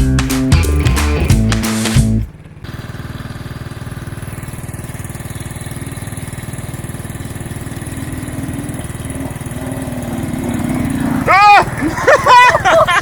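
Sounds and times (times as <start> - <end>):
small petrol engine idling: 0.0 - 13.0.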